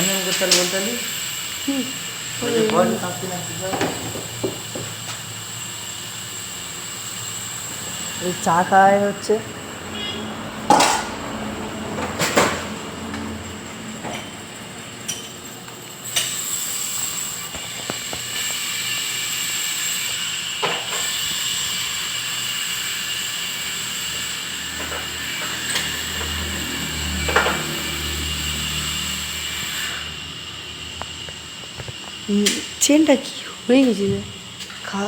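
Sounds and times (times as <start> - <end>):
hissing whine of equipment: 0.0 - 35.0.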